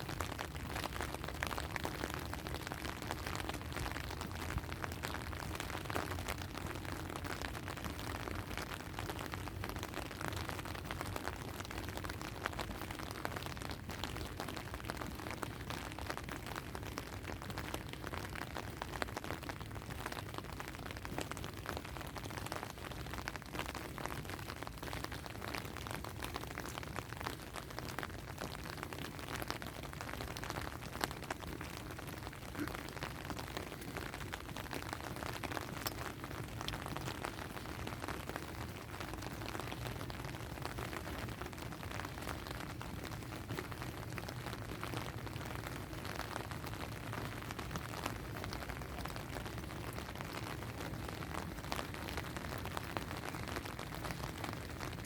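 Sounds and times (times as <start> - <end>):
raindrops pattering on surfaces: 0.0 - 55.0
steady rain falling: 0.0 - 55.0.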